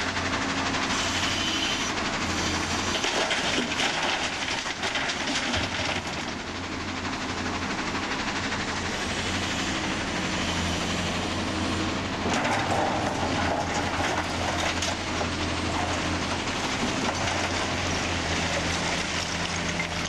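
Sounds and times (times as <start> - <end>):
diesel engine rumble: 0.0 - 20.0.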